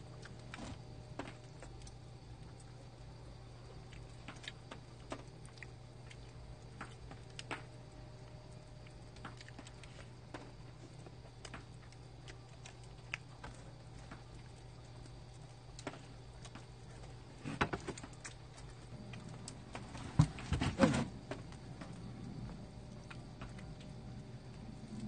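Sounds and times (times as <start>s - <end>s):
charcoal fire crackling: 0.0s - 25.0s
low steady hum: 0.0s - 25.0s.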